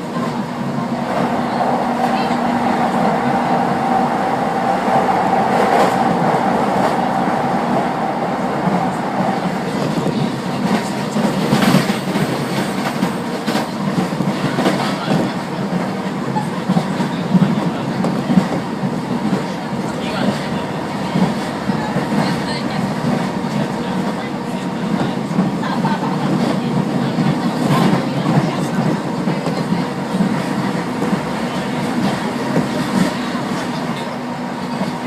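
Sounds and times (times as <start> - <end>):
train wheels rumbling on rails: 0.0 - 35.0
train whine: 0.0 - 35.0.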